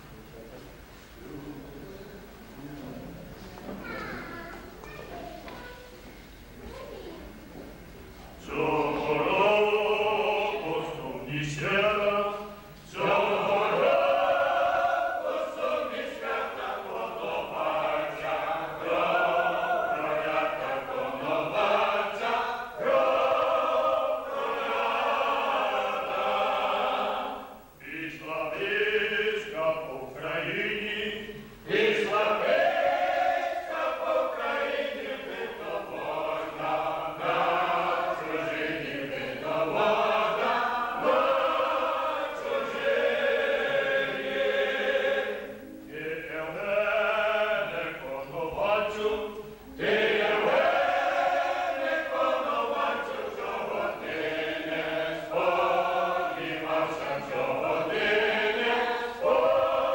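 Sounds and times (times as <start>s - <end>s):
mixed choir singing unaccompanied: 8.4s - 59.9s.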